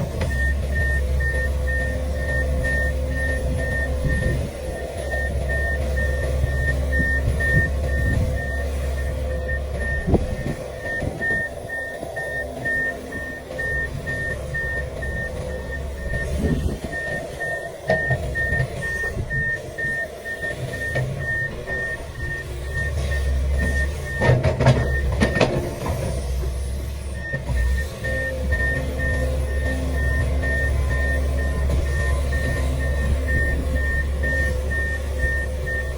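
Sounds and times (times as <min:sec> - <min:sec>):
excavator diesel engine: 0:00.0 - 0:35.9
travel alarm beeping: 0:00.2 - 0:25.7, 0:27.1 - 0:35.9.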